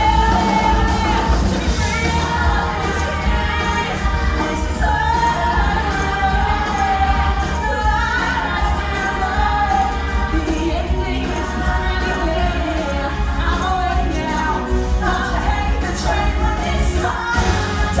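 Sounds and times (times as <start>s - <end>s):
instrumental accompaniment: 0.0s - 18.0s
women singing: 0.0s - 18.0s.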